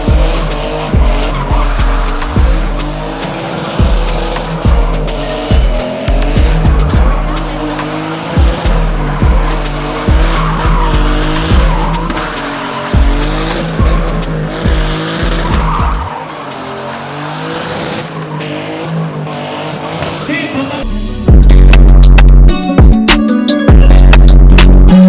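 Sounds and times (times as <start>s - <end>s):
tyres squealing: 0.0s - 20.8s
car engine revving: 0.0s - 22.5s.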